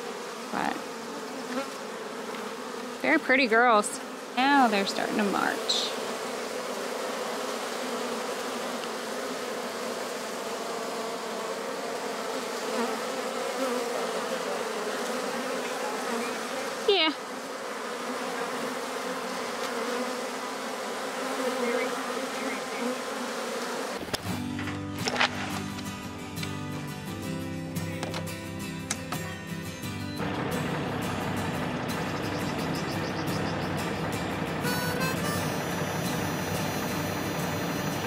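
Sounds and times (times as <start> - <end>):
bee swarm humming: 0.0 - 38.0.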